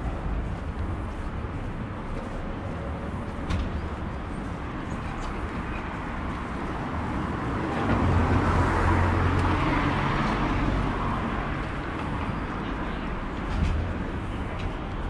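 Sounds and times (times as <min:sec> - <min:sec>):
background traffic noise: 0:00.0 - 0:15.0.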